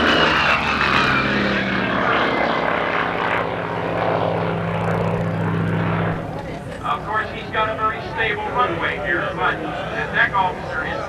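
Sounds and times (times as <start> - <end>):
propeller plane engine passing: 0.0 - 11.0.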